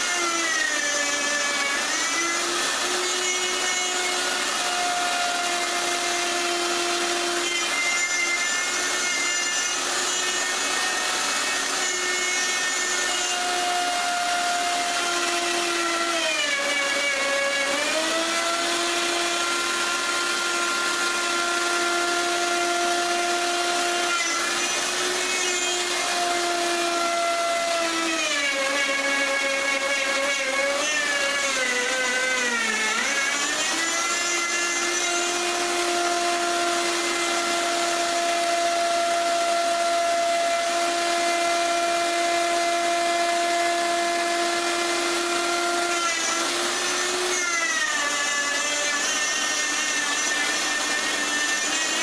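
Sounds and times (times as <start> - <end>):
power tool motor working wood: 0.0 - 52.0.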